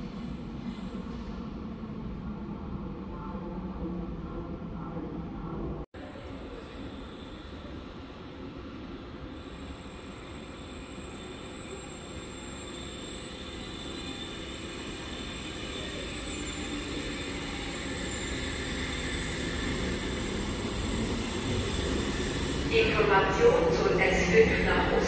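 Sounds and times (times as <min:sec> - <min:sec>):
train accelerating away: 0:00.0 - 0:25.0
train approaching: 0:00.0 - 0:25.0.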